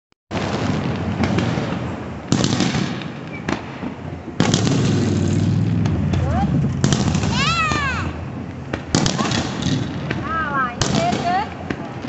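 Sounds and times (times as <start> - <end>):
fireworks shells booming: 0.3 - 12.0
smaller fireworks bangs: 0.3 - 12.0.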